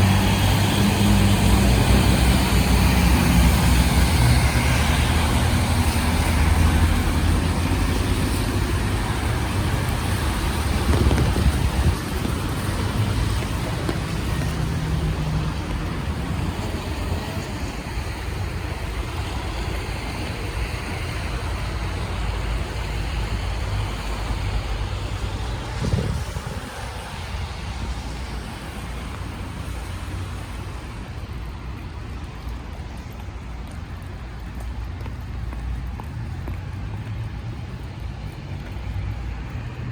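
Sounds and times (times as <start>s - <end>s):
cars passing on wet road: 0.0s - 39.9s
rain hiss: 0.0s - 39.9s.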